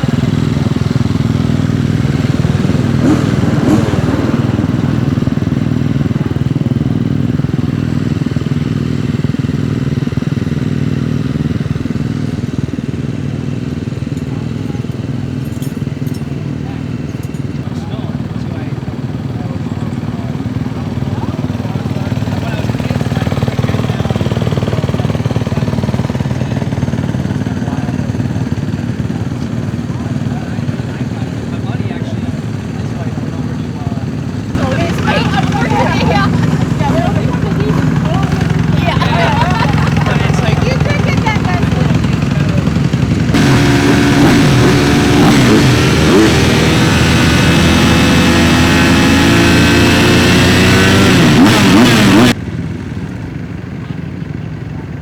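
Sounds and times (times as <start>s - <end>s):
dirt bike engine running hard: 0.0s - 55.0s.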